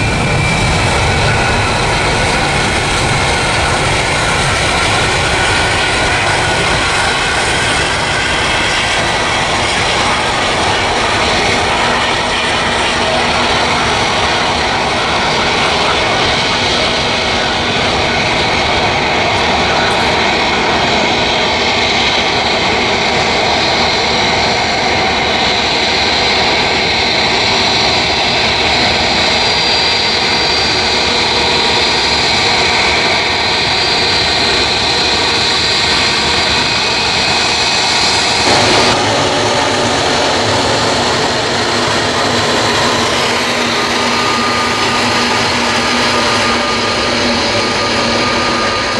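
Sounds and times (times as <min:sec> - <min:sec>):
high engine whine: 0:00.0 - 0:48.9
jet engines roaring at takeoff: 0:00.0 - 0:48.9.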